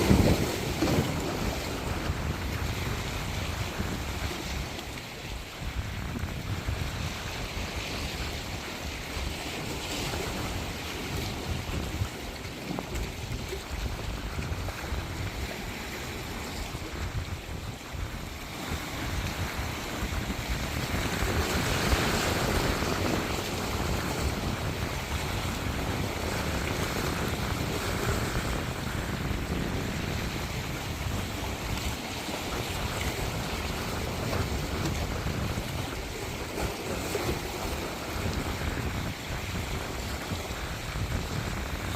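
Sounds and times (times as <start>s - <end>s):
surf washing onto beach: 0.0s - 41.9s
wind buffeting microphone: 0.0s - 41.9s.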